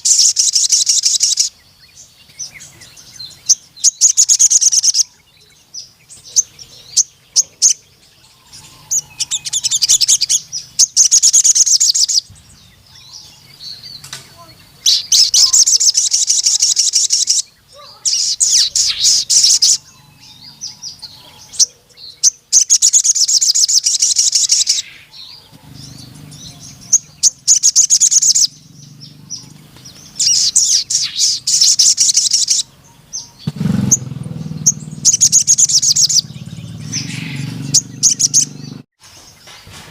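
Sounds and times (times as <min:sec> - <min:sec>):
bird trilling: 0:00.0 - 0:01.6, 0:02.4 - 0:38.9
bird chirps: 0:00.0 - 0:39.8.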